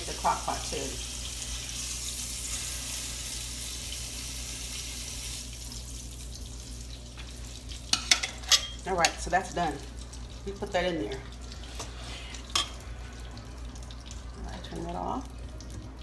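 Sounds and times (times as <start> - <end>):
hot gravy hissing: 0.0 - 13.4.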